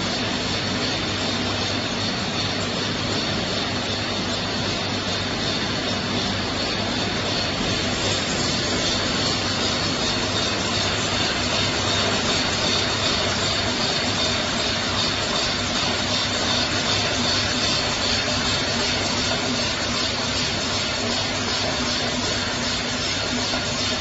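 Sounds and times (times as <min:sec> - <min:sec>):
bottling machinery roar: 0:00.0 - 0:24.0.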